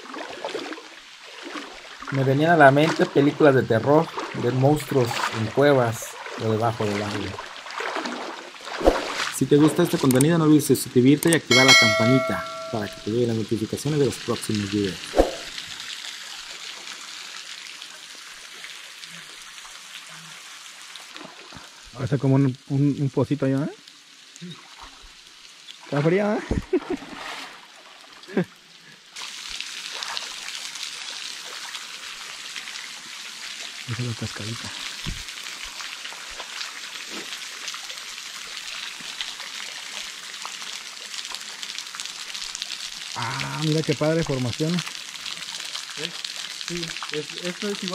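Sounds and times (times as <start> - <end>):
water trickling and dripping: 0.0 - 47.9.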